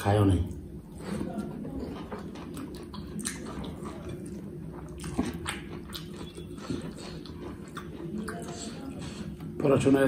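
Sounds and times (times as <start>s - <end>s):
steady low hum: 0.0s - 10.0s
wet chewing and mouth smacks: 1.4s - 9.6s.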